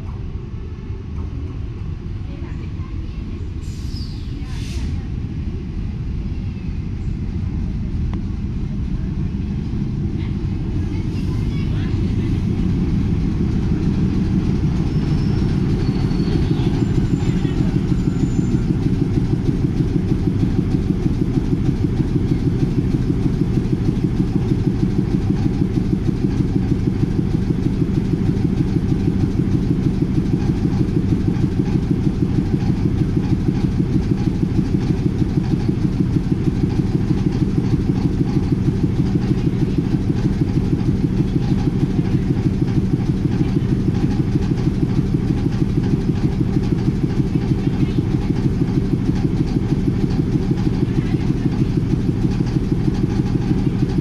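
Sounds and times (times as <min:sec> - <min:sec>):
locomotive diesel engine idling: 0:00.0 - 0:54.0.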